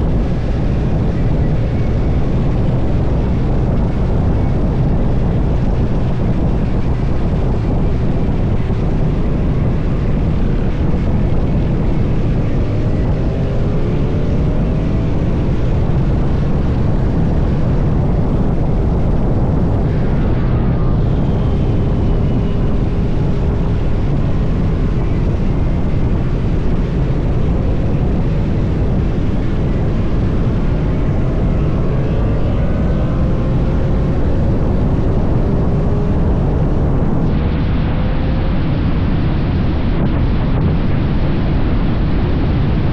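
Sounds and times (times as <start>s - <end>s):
motorcycle engine accelerating: 0.0s - 41.6s
wind rushing over microphone: 0.0s - 42.9s.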